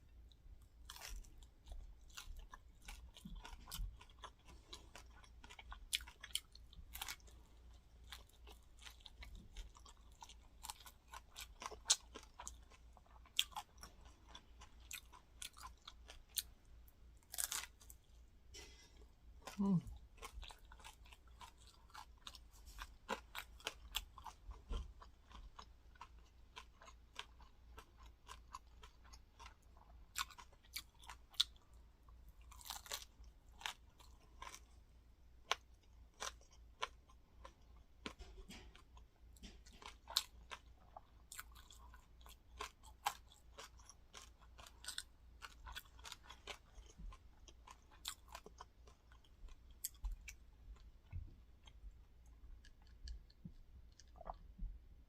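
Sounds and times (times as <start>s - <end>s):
crunchy chewing: 0.2s - 16.6s, 17.2s - 34.8s, 35.4s - 54.5s.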